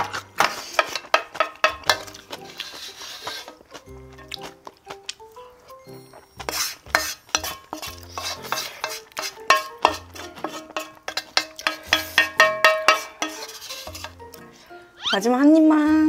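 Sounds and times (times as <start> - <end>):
utensils clinking against a dish: 0.0 - 14.3.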